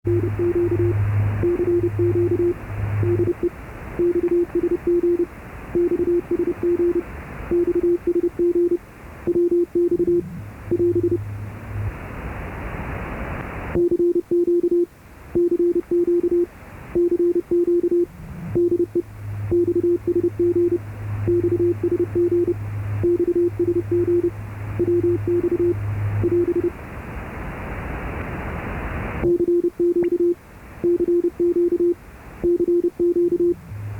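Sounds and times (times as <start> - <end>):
morse code beeps: 0.1 - 11.3, 13.8 - 26.8, 29.2 - 33.9
radio receiver hiss: 0.1 - 13.9, 14.9 - 33.9.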